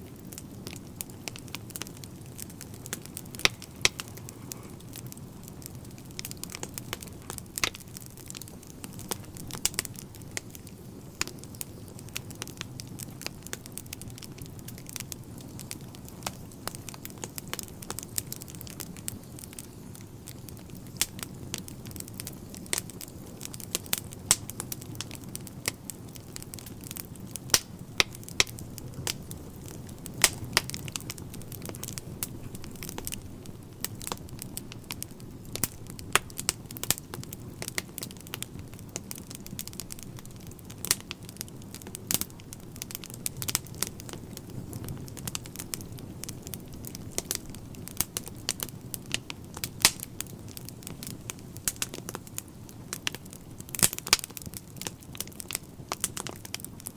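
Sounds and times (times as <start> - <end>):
burning logs crackling and popping: 0.0 - 56.9
low rumble of flames: 0.0 - 56.9.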